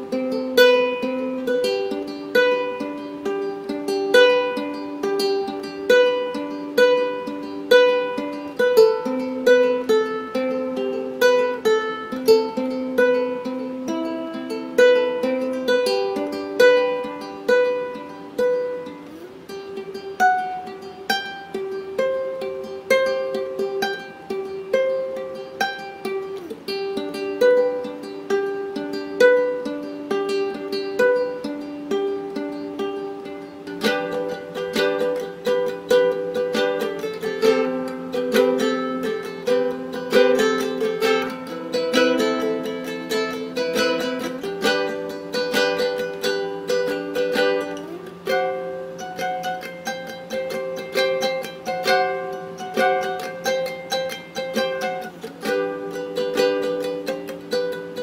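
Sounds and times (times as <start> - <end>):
ukulele fingerpicked melody: 0.0 - 58.0.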